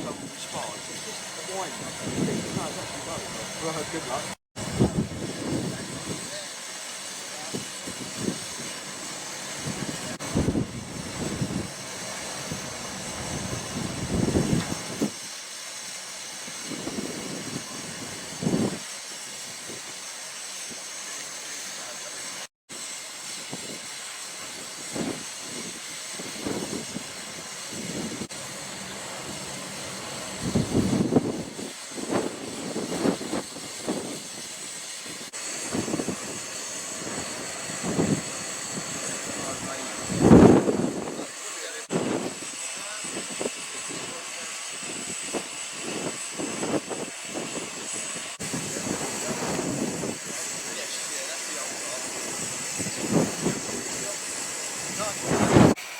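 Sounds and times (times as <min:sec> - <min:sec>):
steam hissing: 0:00.0 - 0:55.9.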